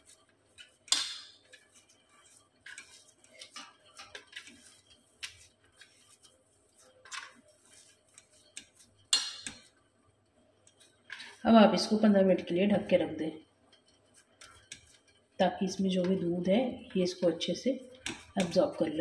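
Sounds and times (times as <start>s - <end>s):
dough kneaded in glass bowl: 0.0s - 19.0s.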